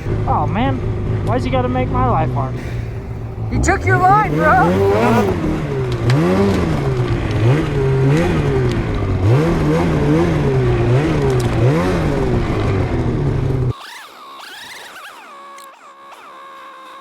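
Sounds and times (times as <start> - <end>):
high engine whine: 0.0 - 13.8
snowmobile engine revving: 0.0 - 17.0.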